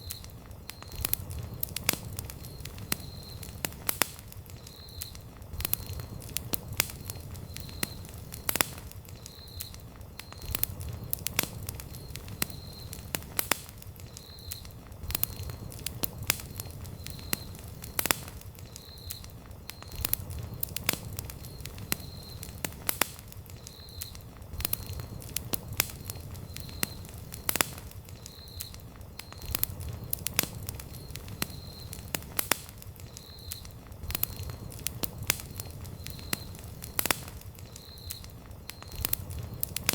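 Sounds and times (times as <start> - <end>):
flames rumbling: 0.0 - 39.9.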